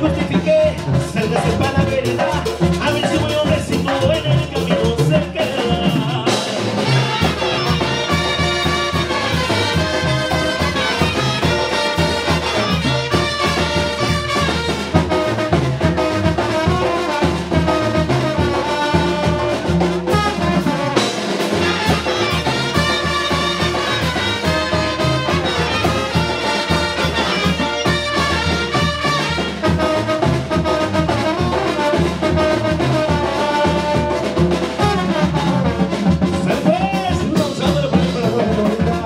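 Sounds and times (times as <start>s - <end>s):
drums: 0.0s - 39.0s
sousaphone bass line: 0.0s - 39.0s
trumpets and trombones: 0.0s - 39.0s.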